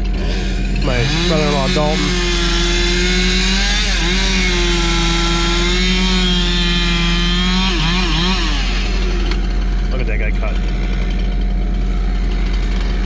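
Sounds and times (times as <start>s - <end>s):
chainsaw cutting a log: 0.0s - 13.0s.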